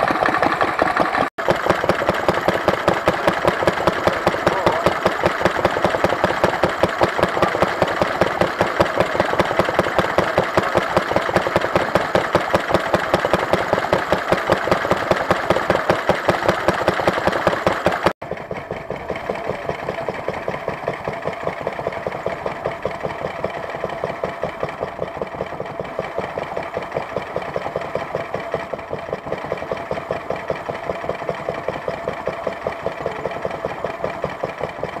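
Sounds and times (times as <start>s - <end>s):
stationary engines running: 0.0s - 35.0s.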